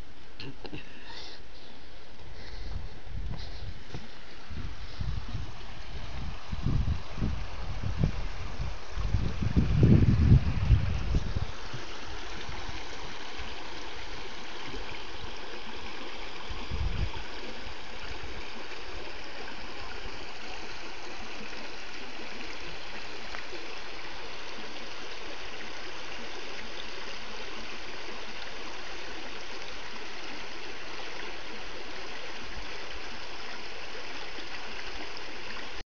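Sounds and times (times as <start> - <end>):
stream babbling over rocks: 0.0 - 35.8.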